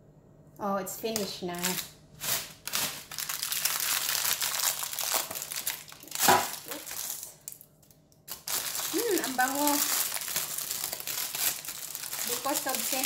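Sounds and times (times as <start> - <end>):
baking paper crinkling: 1.1 - 13.0.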